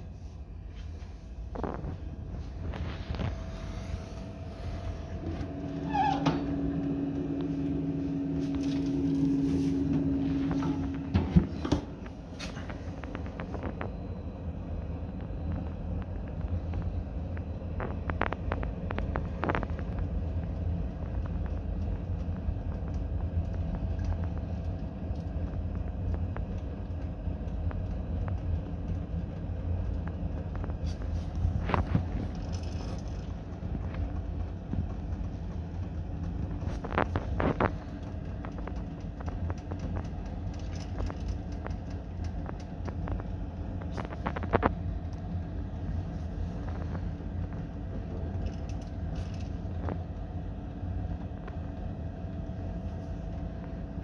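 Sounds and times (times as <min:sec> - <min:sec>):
droning hum: 0:00.0 - 0:54.0
stove fire and fan rumble: 0:00.0 - 0:54.0.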